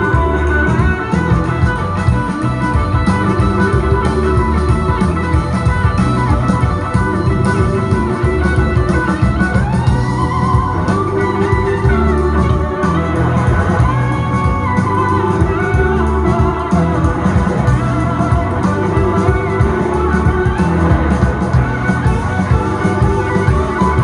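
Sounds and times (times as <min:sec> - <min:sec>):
deep bass: 0:00.0 - 0:24.0
drum kit: 0:00.0 - 0:24.0
guitar line: 0:00.0 - 0:24.0
guitar note sliding upward: 0:00.0 - 0:24.0.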